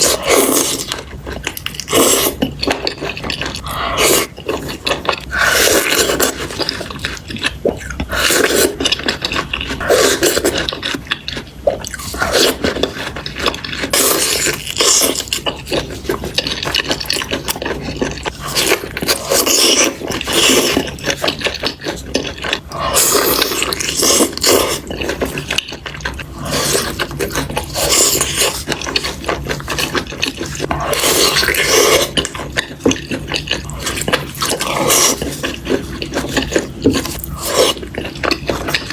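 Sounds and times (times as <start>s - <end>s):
chewing and slurping: 0.0s - 38.9s.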